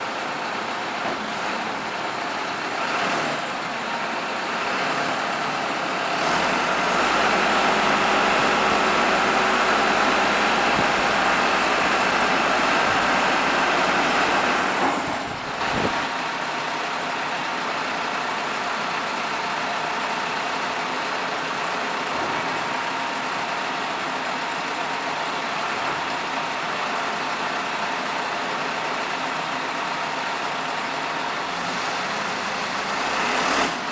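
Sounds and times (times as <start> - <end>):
backhoe loader engine running: 0.0 - 33.9.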